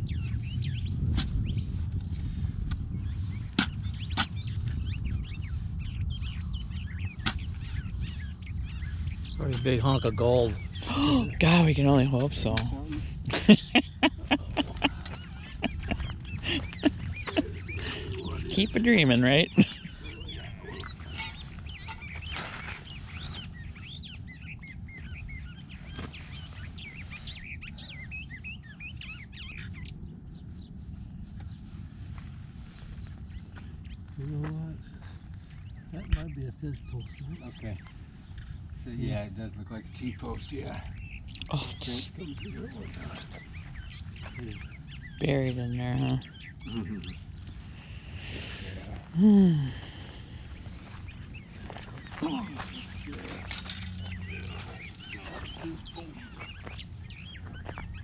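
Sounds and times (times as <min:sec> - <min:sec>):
small birds chirping: 0:00.0 - 0:58.0
steady low rumble: 0:00.0 - 0:58.0.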